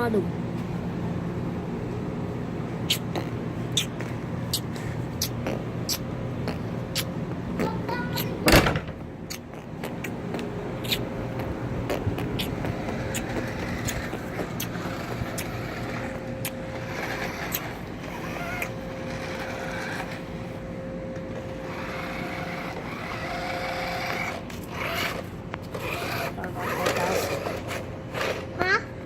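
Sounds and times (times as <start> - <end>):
vehicle engine rumbling: 0.0 - 28.8
steady hum: 0.0 - 29.0.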